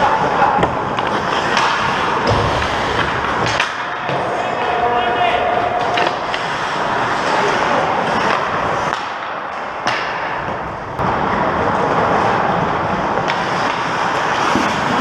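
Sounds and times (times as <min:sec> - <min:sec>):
skate blades scraping ice: 0:00.0 - 0:10.5, 0:11.6 - 0:15.0
sticks and puck clacking: 0:00.0 - 0:15.0.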